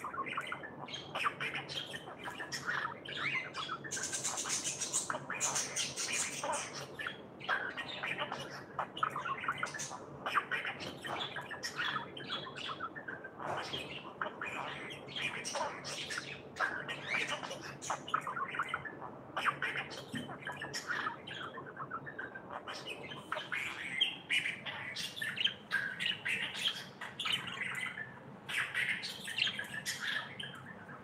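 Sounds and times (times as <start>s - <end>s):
parrot chirping and squawking: 0.0s - 31.0s.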